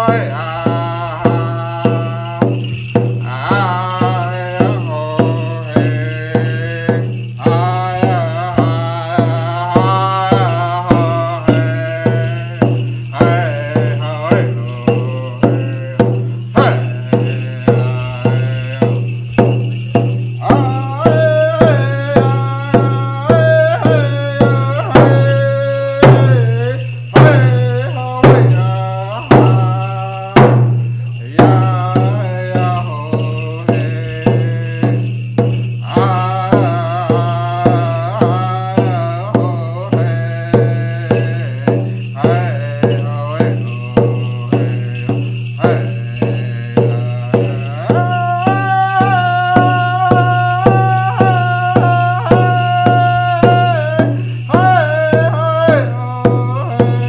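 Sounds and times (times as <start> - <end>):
hand drum beating: 0.0 - 57.0
man singing: 0.0 - 57.0.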